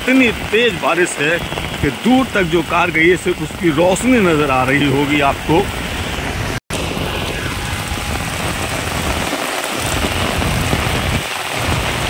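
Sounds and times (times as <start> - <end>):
heavy rain on a wet road: 0.0 - 12.0.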